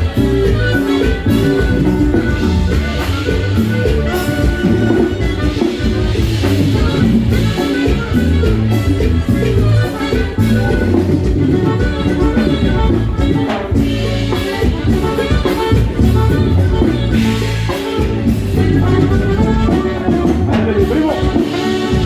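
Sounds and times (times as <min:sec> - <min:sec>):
live band with saxophone: 0:00.0 - 0:22.0
steady bass line: 0:00.0 - 0:22.0.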